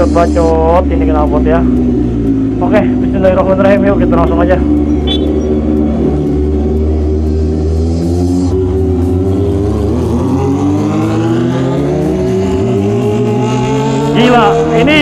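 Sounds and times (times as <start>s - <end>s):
motorcycle engine raspy exhaust: 0.0s - 15.0s.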